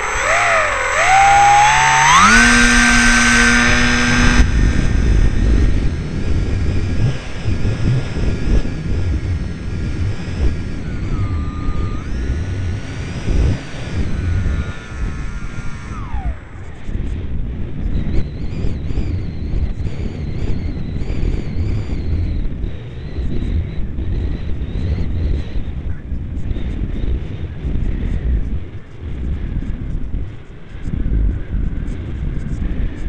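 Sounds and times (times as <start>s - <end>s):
model airplane motor whine: 0.0s - 33.0s
wind rushing over microphone: 0.0s - 33.0s.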